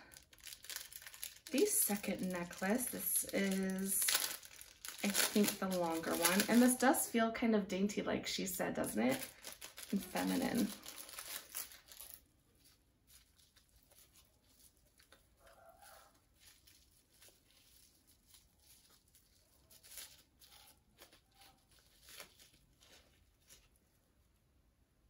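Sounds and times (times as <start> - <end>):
plastic bag crinkling: 0.0 - 7.2, 8.3 - 24.4.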